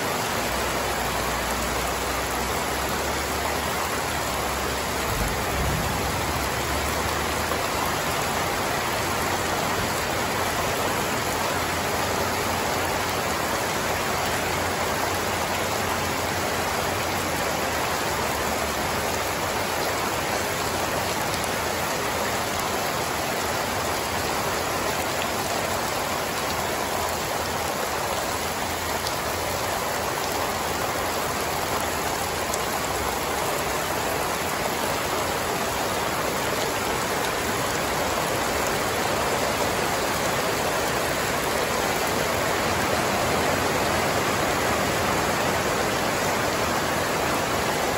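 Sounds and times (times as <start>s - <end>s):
heavy rain on grass: 0.0s - 47.9s.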